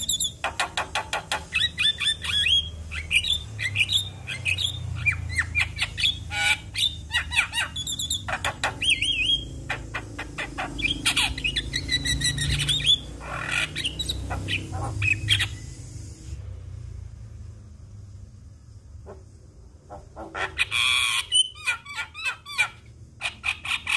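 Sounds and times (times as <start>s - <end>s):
bird singing: 0.0s - 16.2s, 19.8s - 23.9s
steady low hum: 0.0s - 23.9s.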